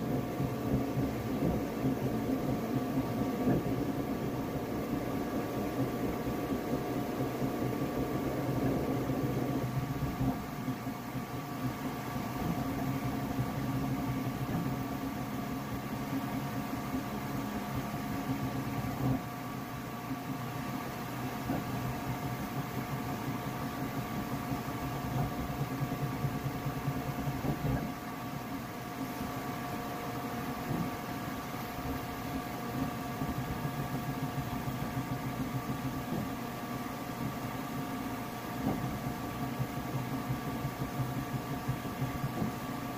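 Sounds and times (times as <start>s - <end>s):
constant whining tones: 0.0s - 42.9s
printer fans and motors humming: 0.0s - 42.9s.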